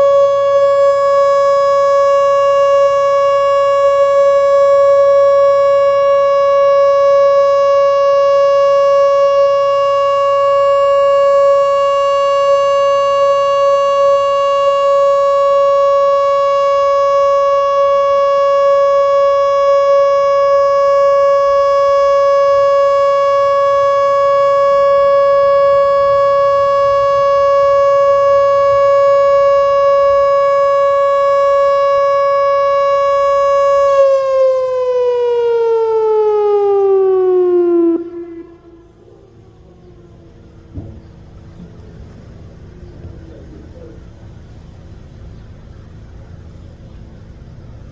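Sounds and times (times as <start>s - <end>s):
warning siren steady tone: 0.0s - 47.9s.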